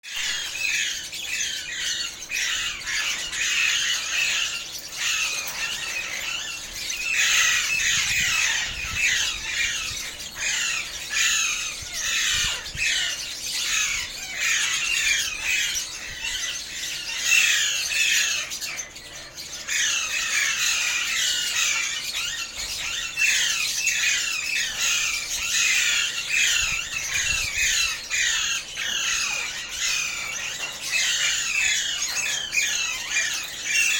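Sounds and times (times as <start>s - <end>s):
parakeets squawking: 0.0s - 33.9s.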